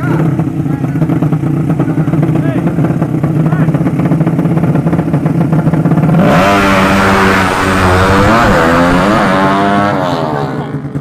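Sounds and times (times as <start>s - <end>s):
racing motorcycle engine revving: 0.0s - 11.0s.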